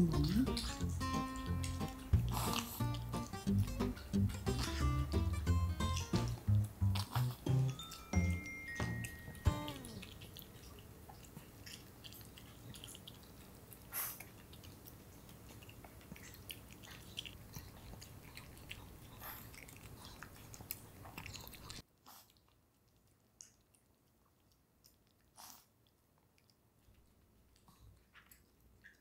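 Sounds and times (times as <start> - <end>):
dog chewing and crunching food: 0.0 - 29.0.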